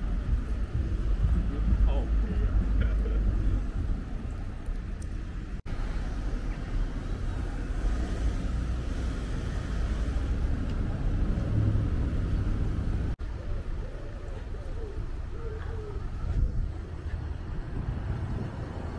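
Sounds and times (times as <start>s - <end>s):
road traffic rumble: 0.0s - 18.9s.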